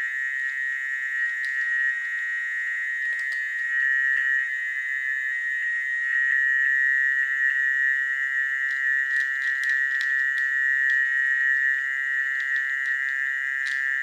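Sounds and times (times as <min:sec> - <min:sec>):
frogs trilling chorus: 0:00.0 - 0:14.0.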